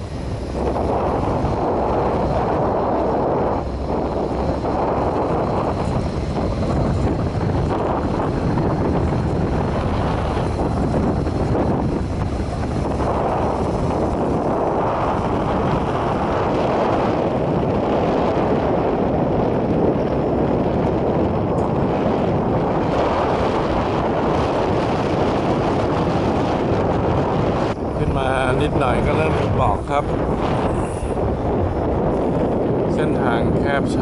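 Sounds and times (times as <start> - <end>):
vehicle driving road noise: 0.0 - 34.0
wind buffeting microphone: 0.0 - 34.0.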